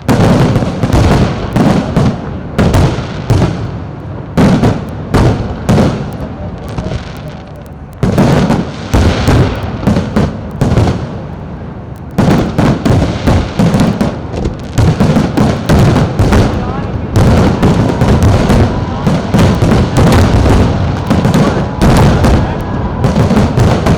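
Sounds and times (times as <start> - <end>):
fireworks exploding: 0.0 - 23.9.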